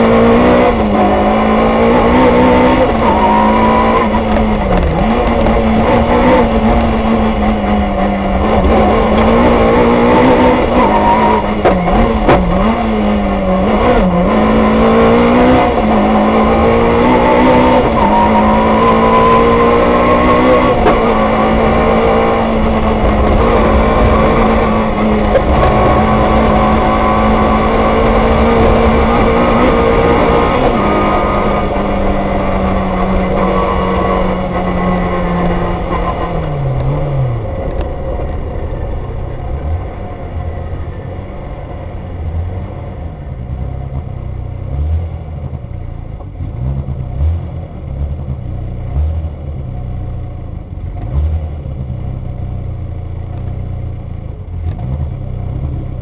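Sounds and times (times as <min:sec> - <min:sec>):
car engine revving high: 0:00.0 - 0:50.2.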